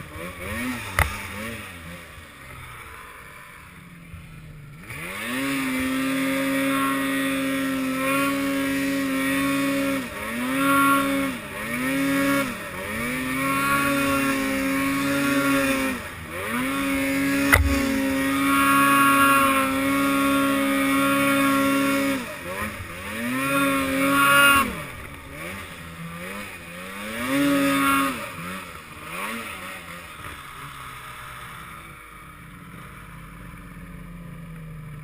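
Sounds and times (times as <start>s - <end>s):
snowmobile engine revving: 0.0s - 35.0s.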